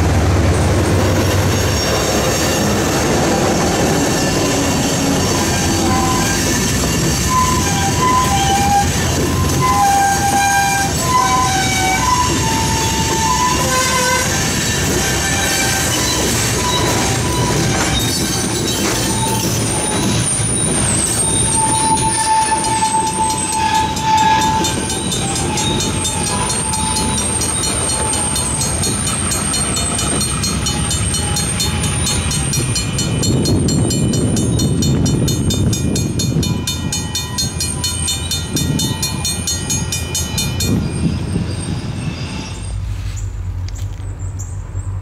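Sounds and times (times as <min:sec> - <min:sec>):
freight train cars rumbling: 0:00.0 - 0:45.0
crossing signal bell ringing: 0:03.6 - 0:42.8.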